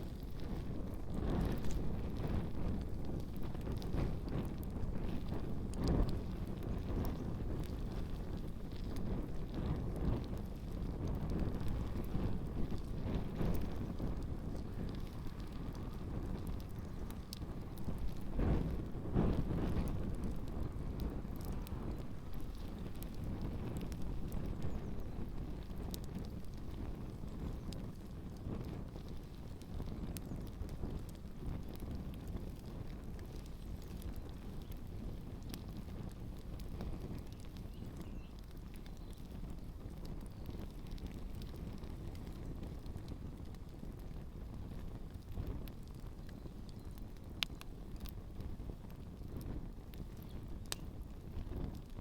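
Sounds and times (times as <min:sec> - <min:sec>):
campfire crackling and popping: 0:00.0 - 0:52.0
wind rumble on microphone: 0:00.0 - 0:52.0.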